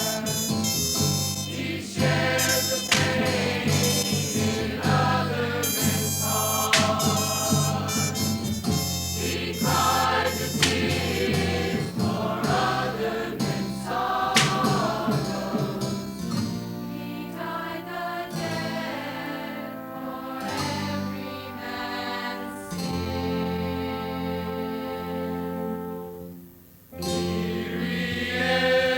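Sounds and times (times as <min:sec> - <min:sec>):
choir singing gospel song: 0:00.0 - 0:26.0, 0:27.0 - 0:28.9.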